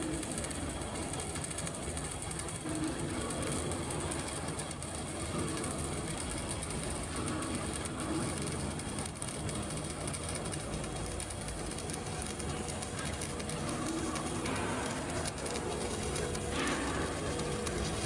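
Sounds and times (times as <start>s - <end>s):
welding arc crackling: 0.0s - 18.0s.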